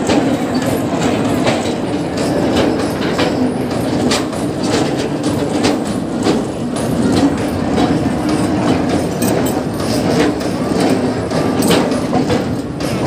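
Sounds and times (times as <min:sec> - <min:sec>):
wheels clacking over rail joints: 0:00.0 - 0:13.0
wheels rumbling on rails: 0:00.0 - 0:13.0.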